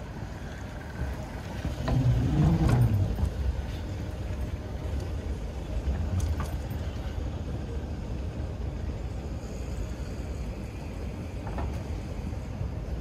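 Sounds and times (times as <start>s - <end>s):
moving walkway rumbling: 0.0s - 13.0s.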